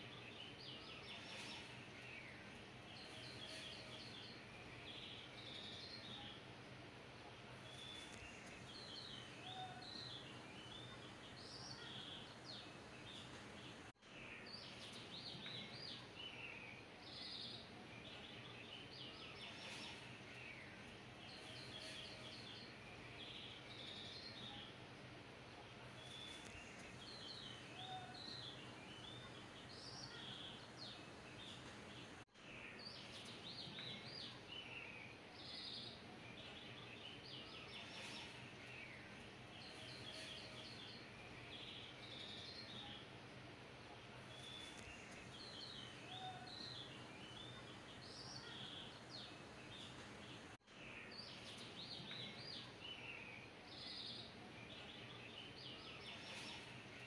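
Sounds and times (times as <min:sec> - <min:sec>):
faint bird chirps and trills: 0:00.0 - 0:57.0.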